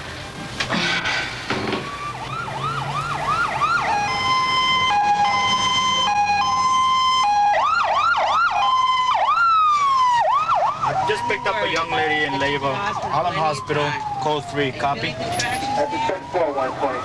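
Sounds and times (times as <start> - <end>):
ambulance siren: 1.7 - 17.0.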